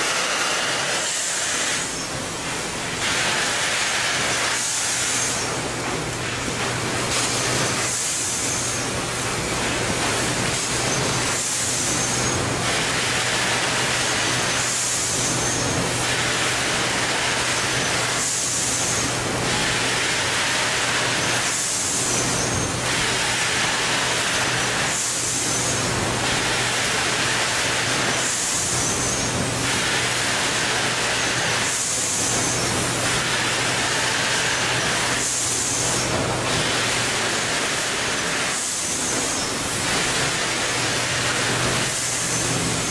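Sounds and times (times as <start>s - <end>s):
machine hissing burst: 0.0s - 42.9s.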